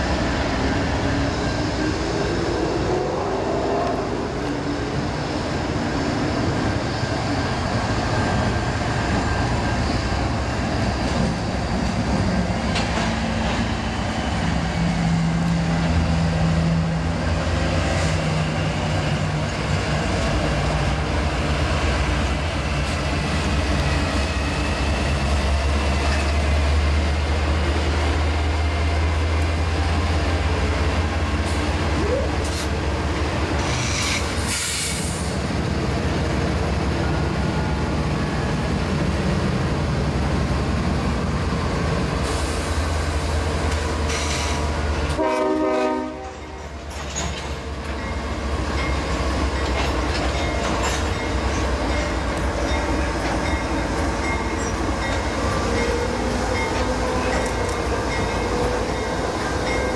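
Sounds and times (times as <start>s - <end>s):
diesel locomotive rumble: 0.0s - 59.9s
train wheels rolling on rail: 0.0s - 59.9s.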